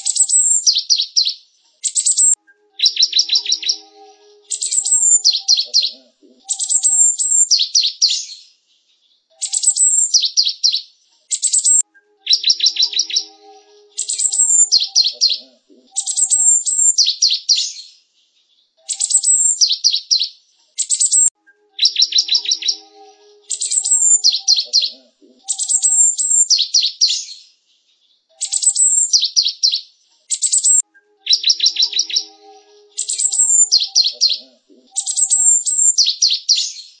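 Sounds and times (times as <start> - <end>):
sparrow song: 0.0 - 37.0.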